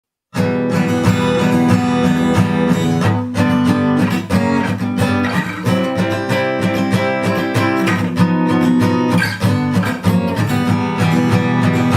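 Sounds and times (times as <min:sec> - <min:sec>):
acoustic guitar strumming: 0:00.4 - 0:11.9.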